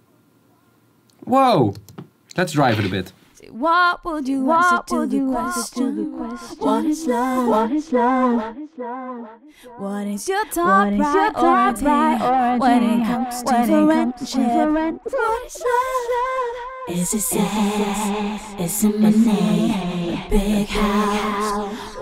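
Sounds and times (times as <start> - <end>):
sung vocals with wavering echoes: 3.4 - 22.0.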